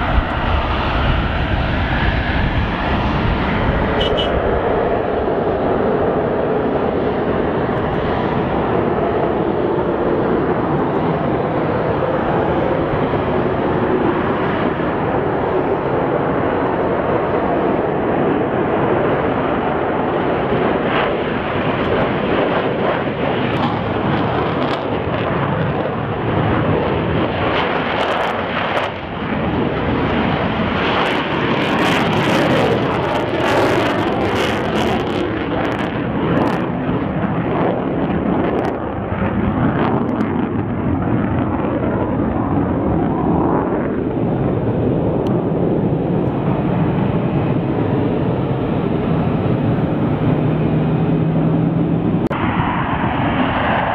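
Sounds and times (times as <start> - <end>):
jet engine roaring: 0.0 - 53.9.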